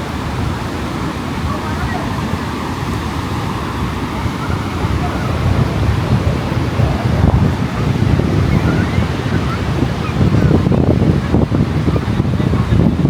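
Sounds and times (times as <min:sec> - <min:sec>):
faint voices: 0:00.0 - 0:13.0
ocean surf: 0:00.0 - 0:13.0
wind buffeting microphone: 0:00.0 - 0:13.0.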